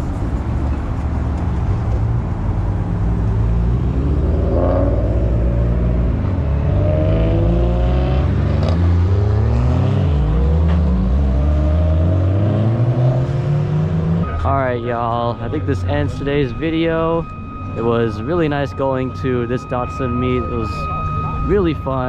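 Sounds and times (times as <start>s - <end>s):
car engine revving: 1.4s - 21.4s.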